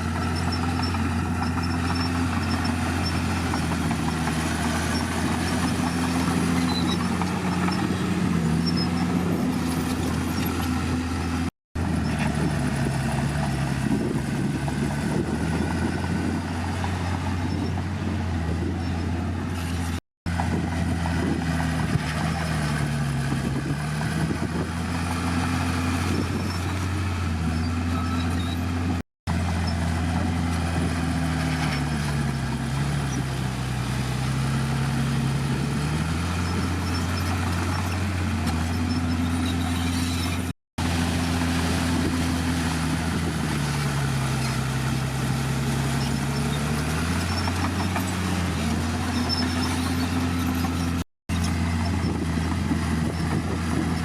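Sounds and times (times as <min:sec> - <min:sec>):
heavy diesel engine working: 0:00.0 - 0:54.0.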